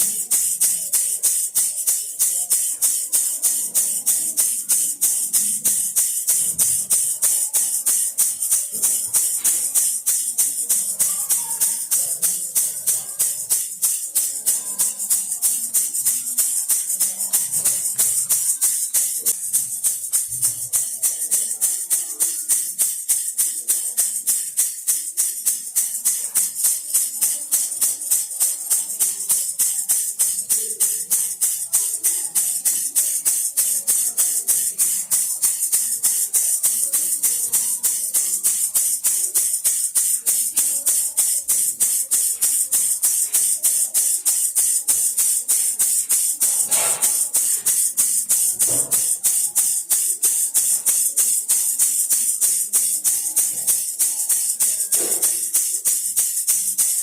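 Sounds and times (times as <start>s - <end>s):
baby rattle shaking: 0.0s - 57.0s.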